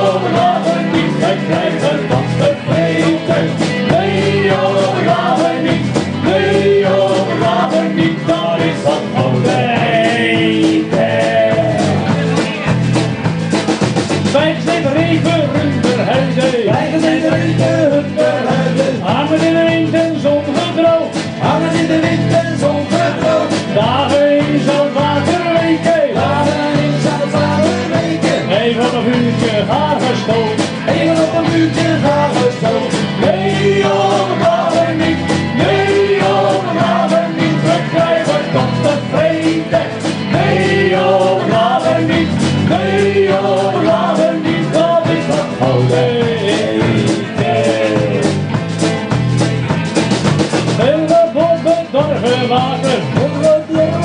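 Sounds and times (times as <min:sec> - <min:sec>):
live band with singing: 0:00.0 - 0:54.0.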